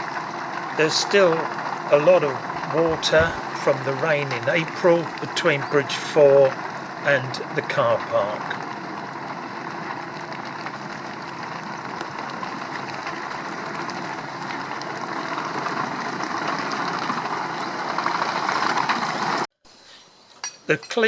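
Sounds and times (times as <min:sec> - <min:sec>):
engine-like running noise: 0:00.0 - 0:19.5.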